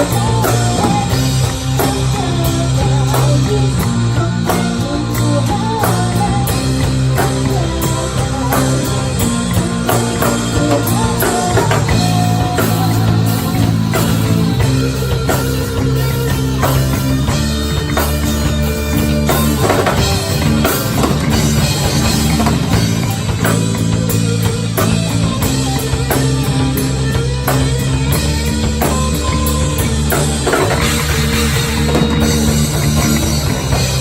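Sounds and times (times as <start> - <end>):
bass line: 0.0 - 34.0
drum kit: 0.0 - 34.0
electric guitar: 0.0 - 34.0.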